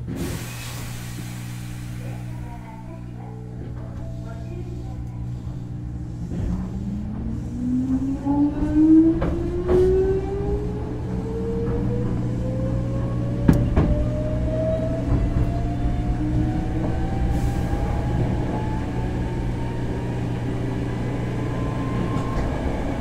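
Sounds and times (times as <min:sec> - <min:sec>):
low train rumble: 0:00.0 - 0:23.0.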